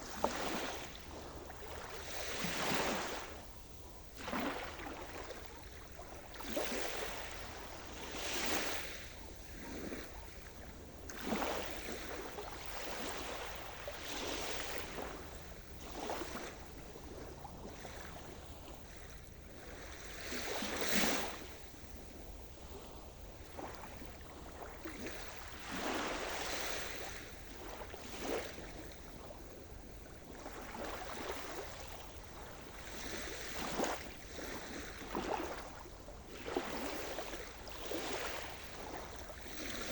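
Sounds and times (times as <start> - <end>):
small waves breaking: 0.0 - 39.9.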